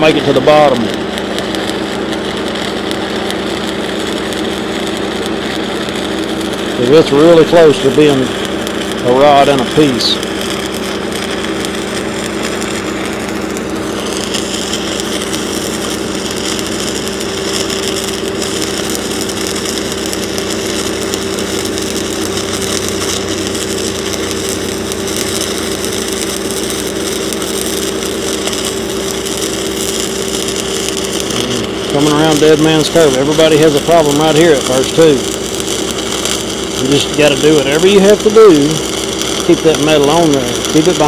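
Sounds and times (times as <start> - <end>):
steady hum: 0.0 - 41.0
welding arc sizzling: 0.0 - 41.0.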